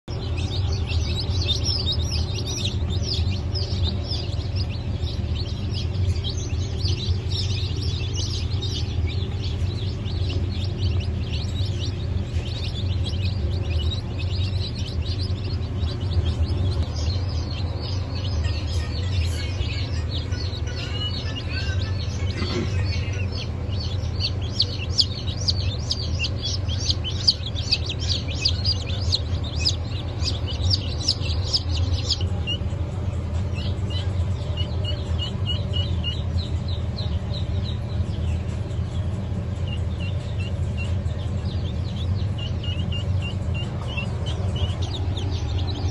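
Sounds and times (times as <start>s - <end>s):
chicks peeping: 0.0s - 45.9s
steady low hum: 0.0s - 45.9s.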